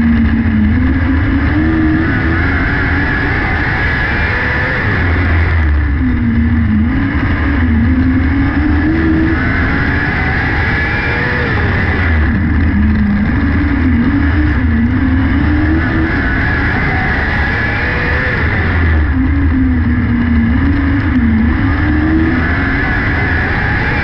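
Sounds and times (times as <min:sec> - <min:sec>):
sprint car engine racing: 0:00.0 - 0:24.0.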